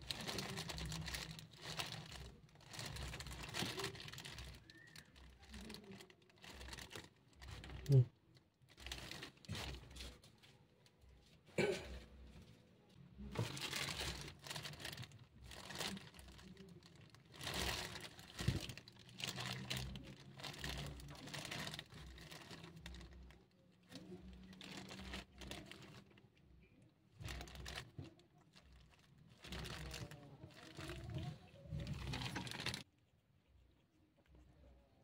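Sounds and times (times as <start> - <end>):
plastic bag crinkling: 0.0 - 11.0, 13.1 - 32.9.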